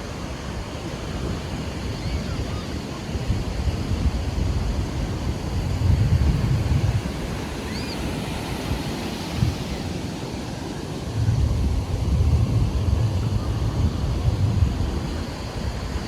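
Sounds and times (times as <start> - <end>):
sea surf washing onto beach: 0.0 - 16.0
wind buffeting microphone: 0.0 - 16.0.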